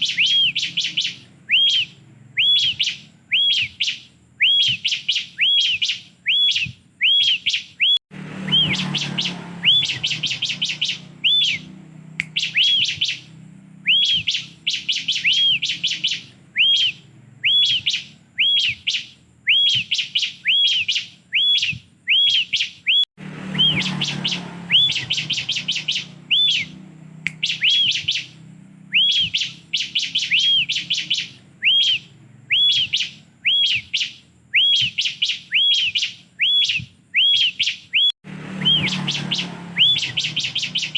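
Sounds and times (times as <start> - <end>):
bird song with whistles and chatter: 0.0 - 40.9.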